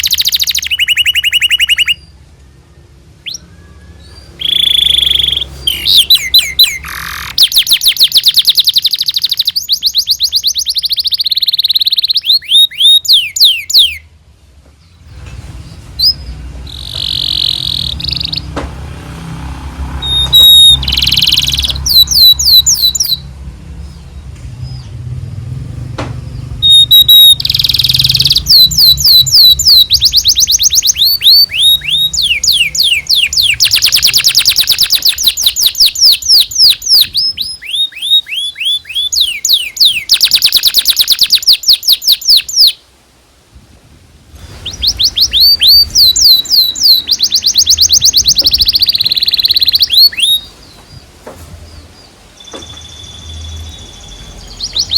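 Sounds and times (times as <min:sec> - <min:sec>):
canary singing: 0:00.0 - 0:14.2, 0:14.8 - 0:25.7, 0:26.3 - 0:42.8, 0:44.4 - 0:54.9.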